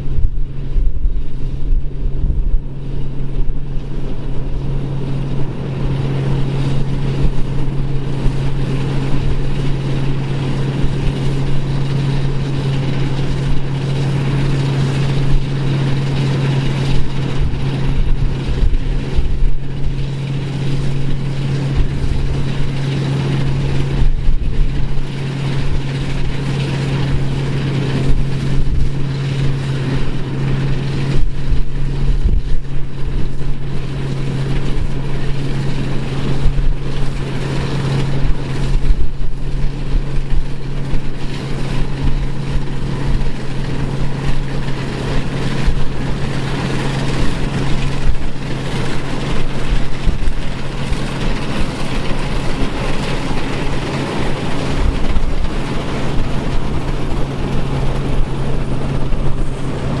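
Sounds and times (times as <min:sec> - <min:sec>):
machinery engine humming: 0:00.0 - 1:00.0.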